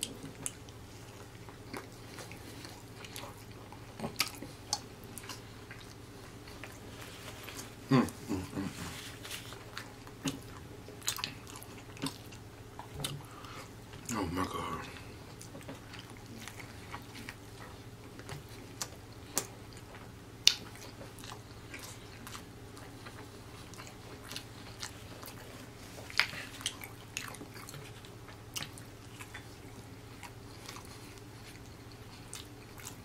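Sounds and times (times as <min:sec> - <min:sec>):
faint low hum: 0:00.0 - 0:33.0
person chewing crunchy food: 0:00.0 - 0:33.0.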